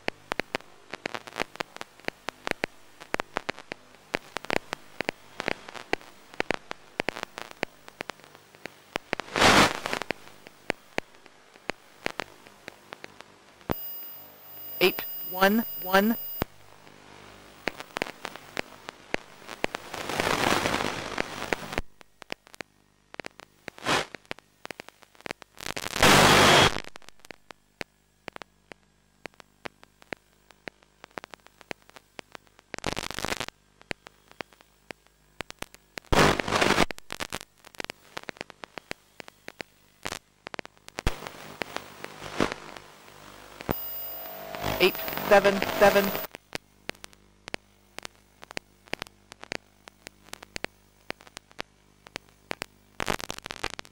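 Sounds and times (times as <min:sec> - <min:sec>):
crackling radio static: 0:00.0 - 0:53.9.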